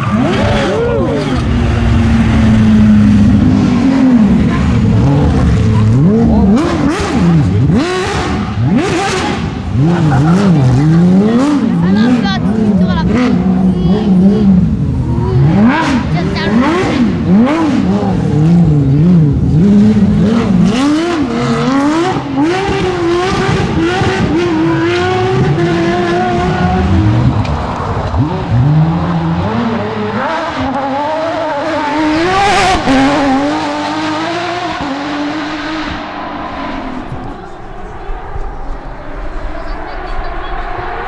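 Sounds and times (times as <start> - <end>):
rally car engine climbing in pitch: 0.0 - 41.0
rally car engine revving: 0.0 - 41.0.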